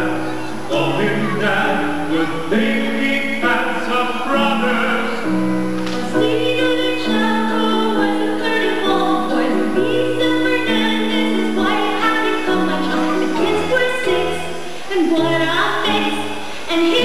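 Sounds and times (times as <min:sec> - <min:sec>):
woman and chorus singing: 0:00.0 - 0:05.1, 0:05.9 - 0:17.0
held chords accompaniment: 0:00.0 - 0:17.0.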